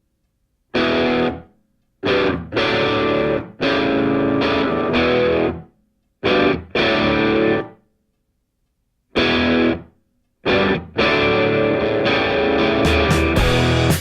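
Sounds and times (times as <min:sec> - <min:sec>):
distorted electric guitar chords: 0:00.8 - 0:05.6, 0:06.2 - 0:07.8, 0:09.2 - 0:14.0.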